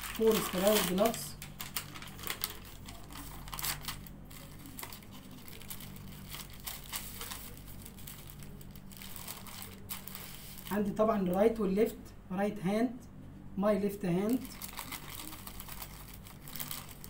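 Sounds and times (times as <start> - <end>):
paper wrapper rustling and crinkling: 0.0 - 11.5, 14.3 - 17.0
faint low hum: 0.0 - 17.0.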